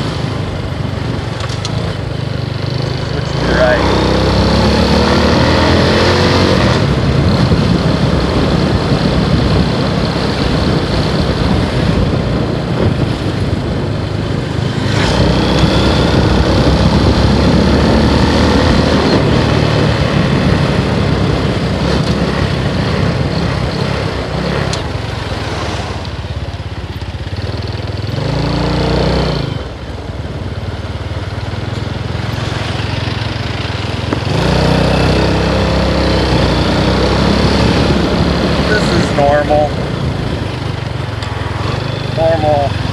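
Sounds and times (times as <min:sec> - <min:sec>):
heavy wind rush: 0:00.0 - 0:28.6, 0:29.2 - 0:42.9
motorcycle engine running: 0:00.0 - 0:42.9.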